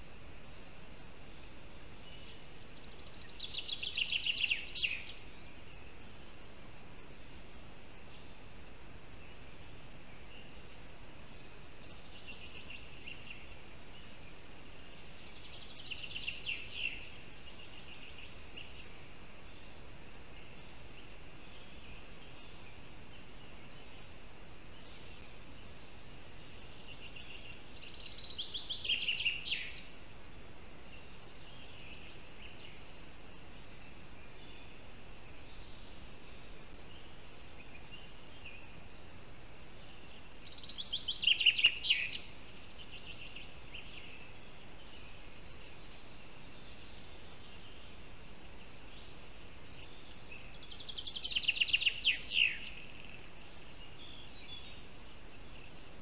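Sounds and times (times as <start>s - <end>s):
songbird singing: 0.0s - 56.0s
steady background hiss: 0.0s - 56.0s.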